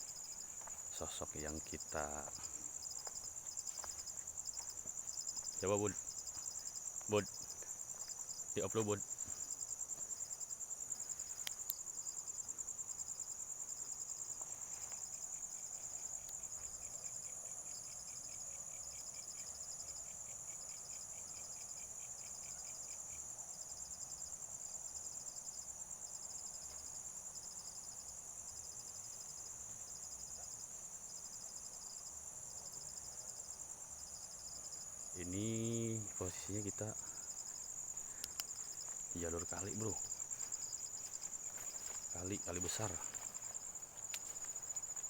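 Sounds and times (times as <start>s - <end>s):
insects trilling and chirping: 0.0s - 45.0s.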